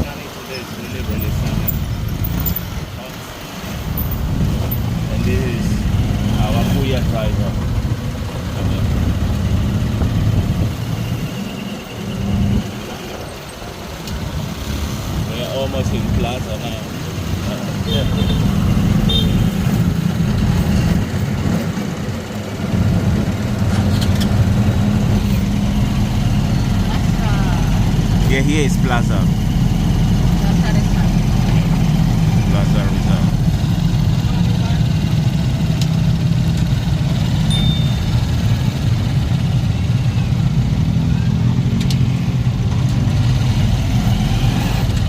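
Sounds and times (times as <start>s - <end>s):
motorcycle tricycle engine running: 0.0s - 45.0s.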